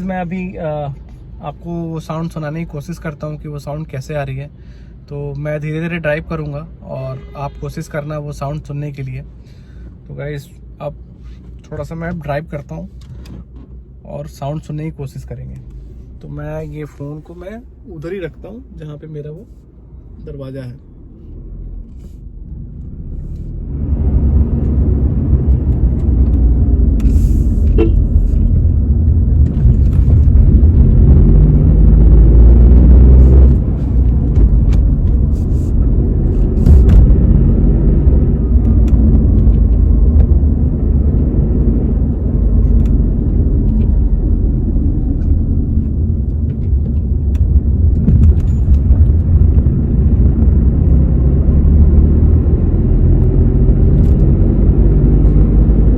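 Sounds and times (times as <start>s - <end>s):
road and tyre rumble: 0.0s - 55.9s.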